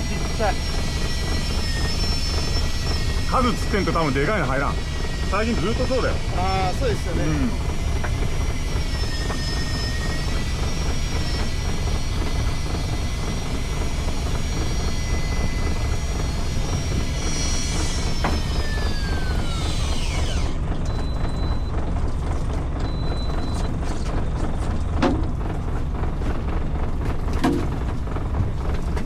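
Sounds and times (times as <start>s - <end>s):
boat engine rumbling: 0.0s - 29.0s
high motor whine: 0.0s - 29.0s.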